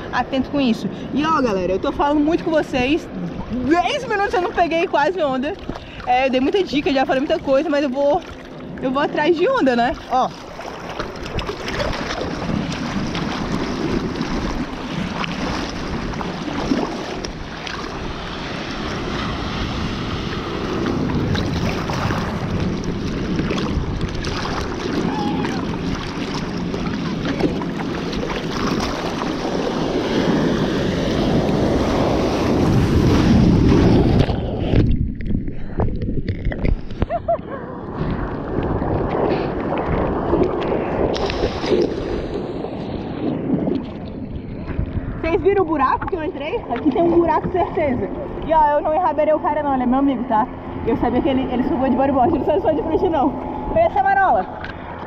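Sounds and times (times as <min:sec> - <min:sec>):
water sloshing and splashing: 0:00.0 - 0:55.0
wind buffeting microphone: 0:00.0 - 0:55.0.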